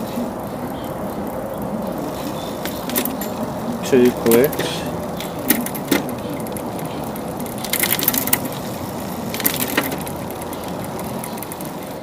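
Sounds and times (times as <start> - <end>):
bicycle chain running: 0.0 - 12.0
derailleur shifting clicks: 0.0 - 12.0.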